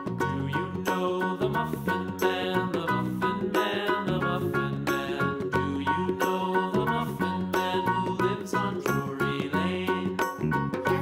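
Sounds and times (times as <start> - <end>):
instrumental children's music: 0.0 - 11.0.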